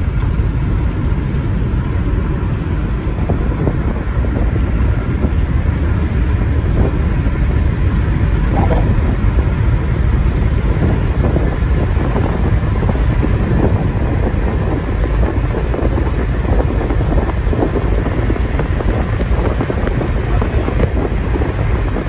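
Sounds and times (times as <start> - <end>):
car road noise from inside: 0.0 - 22.0
wind buffeting microphone: 0.0 - 22.0.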